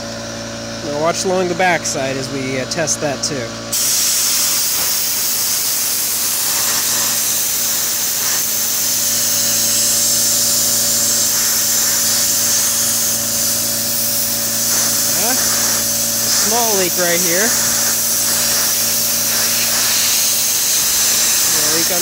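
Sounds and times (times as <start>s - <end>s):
compressed air blow gun hissing: 3.7s - 22.0s.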